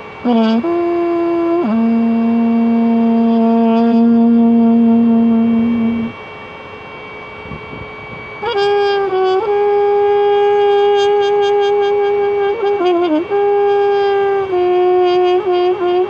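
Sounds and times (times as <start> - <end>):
trumpet playing held notes: 0.0 - 6.2, 8.4 - 16.0.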